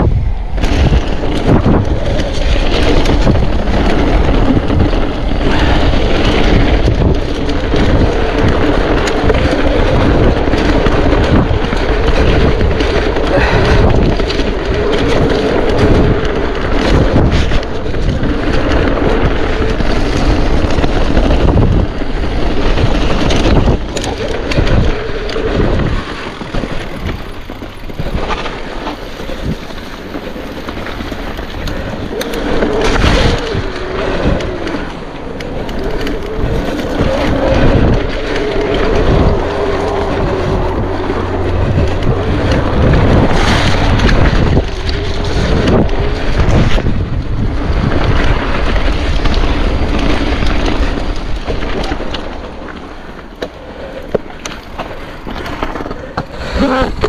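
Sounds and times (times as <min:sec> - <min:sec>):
bike rattling: 0:00.0 - 0:57.0
tyres rumbling over gravel: 0:00.0 - 0:57.0
wind buffeting microphone: 0:00.0 - 0:57.0.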